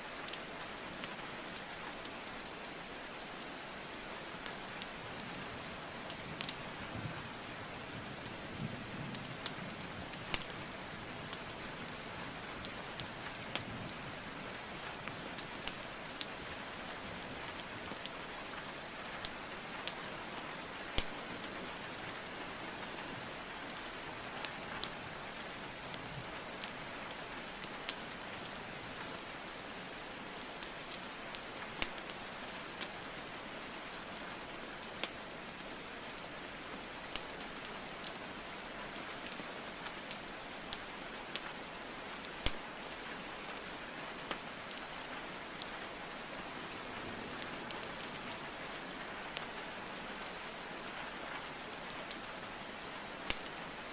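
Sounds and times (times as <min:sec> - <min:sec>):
rain hiss: 0:00.0 - 0:53.9
wood fire crackling: 0:00.2 - 0:02.5, 0:04.3 - 0:53.9.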